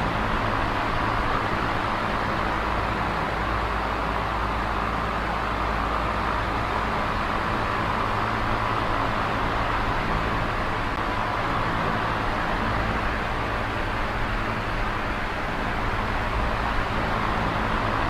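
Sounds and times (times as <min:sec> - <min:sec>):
electric fan running: 0:00.0 - 0:18.0.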